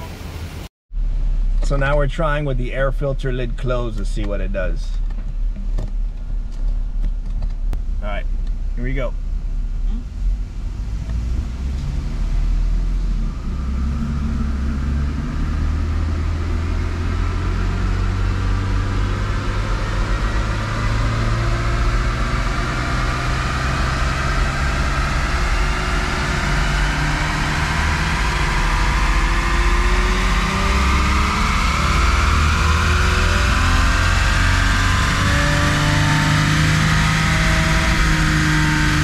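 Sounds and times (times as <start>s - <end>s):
car engine revving under load: 0.0s - 39.0s.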